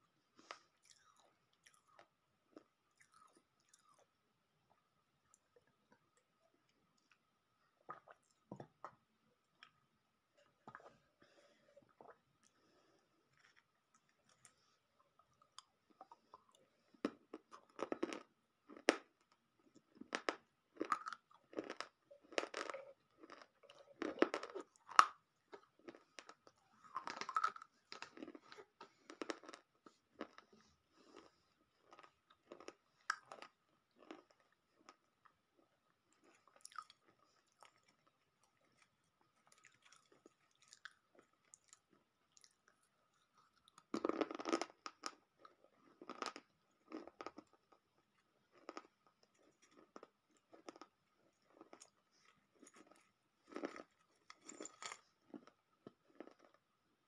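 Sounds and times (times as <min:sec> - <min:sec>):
crunching and chewing clay pieces: 0:00.0 - 0:09.8, 0:11.8 - 0:57.0.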